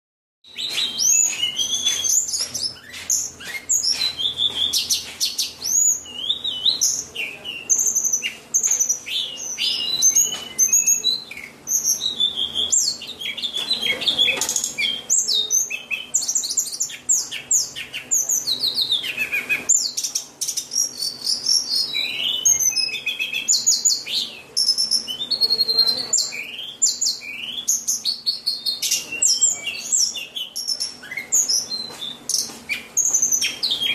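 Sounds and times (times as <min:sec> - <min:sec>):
bird singing whistling song: 0:00.4 - 0:33.9.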